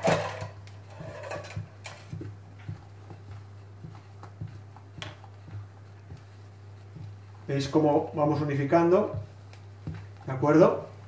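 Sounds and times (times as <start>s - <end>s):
steady low hum: 0.0s - 11.0s
spatula folding batter: 0.6s - 11.0s.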